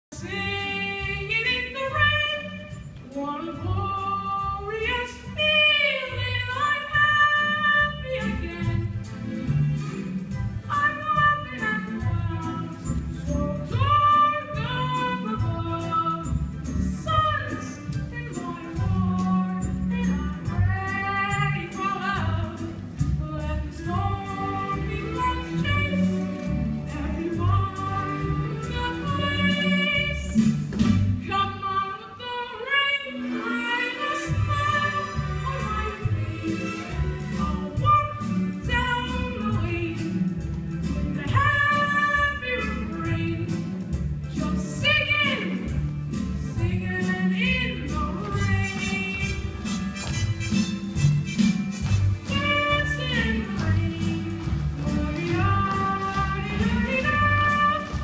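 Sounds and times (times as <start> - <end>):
instrumental accompaniment: 0.1 - 58.0.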